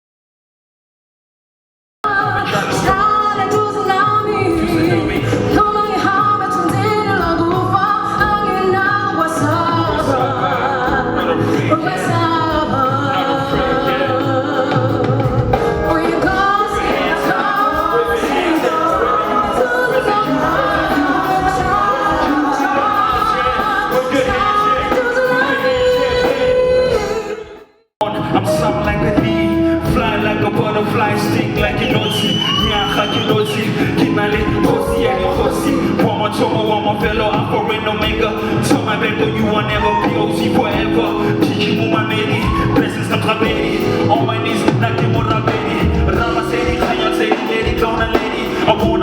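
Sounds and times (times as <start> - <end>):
full musical backing: 2.1 - 49.0
gospel singing voices: 2.1 - 49.0.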